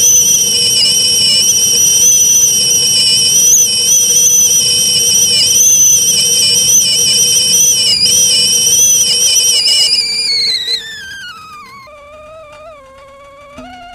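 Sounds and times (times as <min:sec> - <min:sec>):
kettle whistling: 0:00.0 - 0:13.9.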